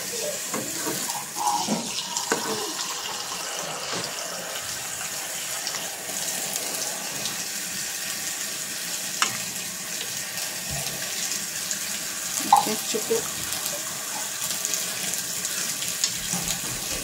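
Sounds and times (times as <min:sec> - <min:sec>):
water pouring into a pot: 0:00.0 - 0:17.0.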